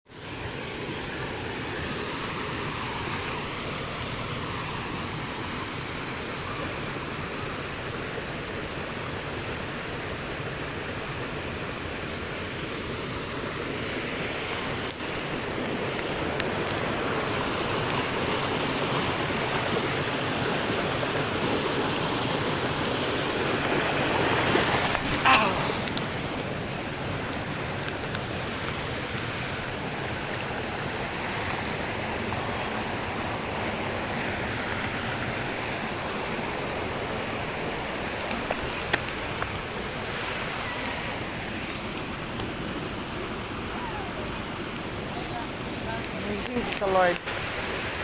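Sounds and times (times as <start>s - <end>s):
water rushing: 0.1s - 48.0s.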